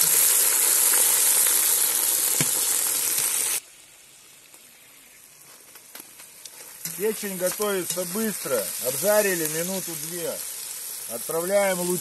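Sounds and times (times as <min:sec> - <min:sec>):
liver sizzling in hot oil: 0:00.0 - 0:12.0.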